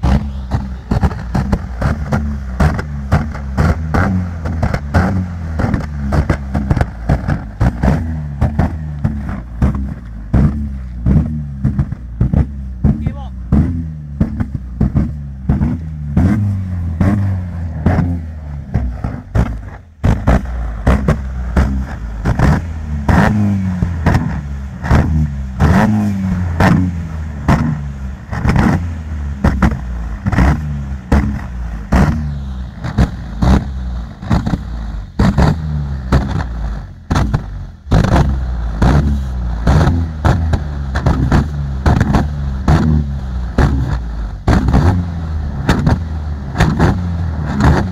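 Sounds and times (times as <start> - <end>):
car engine revving: 0.0 - 47.9
exhaust cracks and pops: 0.0 - 47.9.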